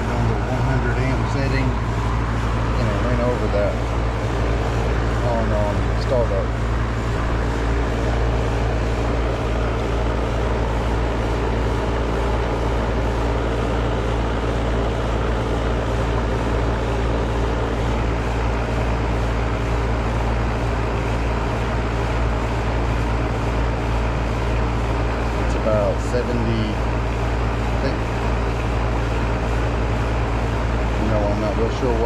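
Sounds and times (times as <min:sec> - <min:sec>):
compressor hum: 0:00.0 - 0:32.0
condenser fan whoosh: 0:00.0 - 0:32.0.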